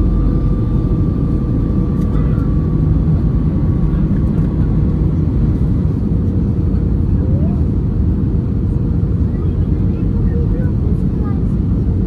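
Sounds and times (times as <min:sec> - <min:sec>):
aircraft cabin engine roar: 0:00.0 - 0:12.0.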